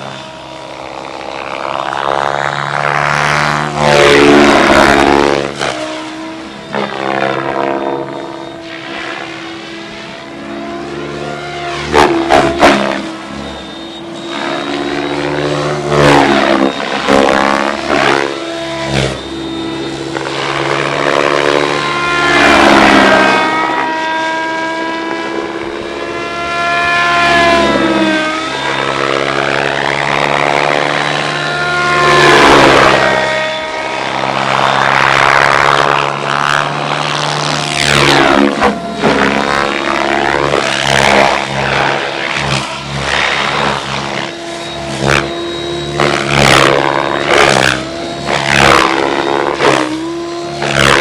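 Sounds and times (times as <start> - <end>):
model helicopter rotor whine: 0.0 - 51.0
sharp bursts: 0.0 - 51.0.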